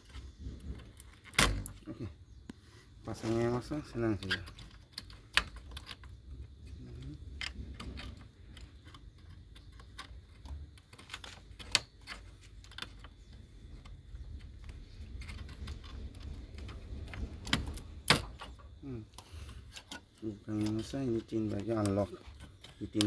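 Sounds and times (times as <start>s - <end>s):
light clicks of small parts: 0.0s - 23.0s.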